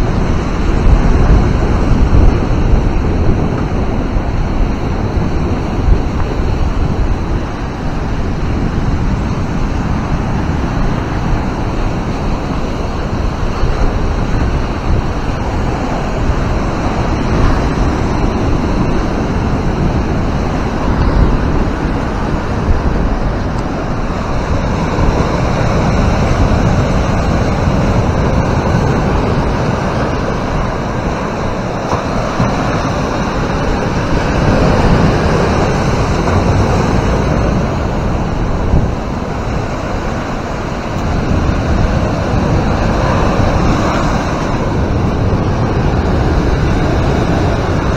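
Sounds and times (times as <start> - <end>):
sea waves breaking: 0.0 - 47.9
wind rumble on microphone: 0.0 - 47.9.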